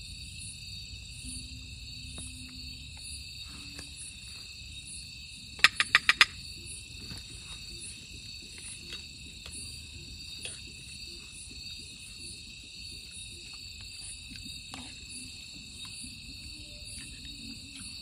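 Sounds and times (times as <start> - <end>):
faint pulsing high chirp: 0.0 - 5.5, 6.3 - 18.0
night insects chirping: 0.0 - 18.0.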